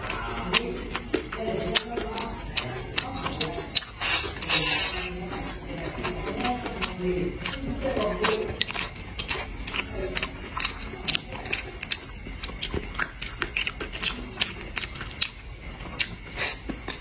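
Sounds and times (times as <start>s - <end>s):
person chewing wetly: 0.0s - 17.0s.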